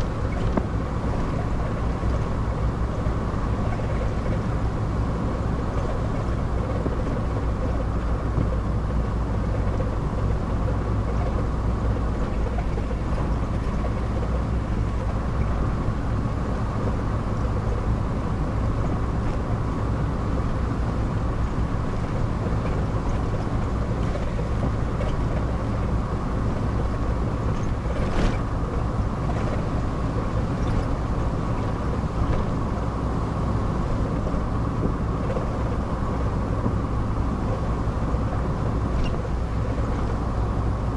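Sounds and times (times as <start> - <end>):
car engine and road drone: 0.0 - 40.9.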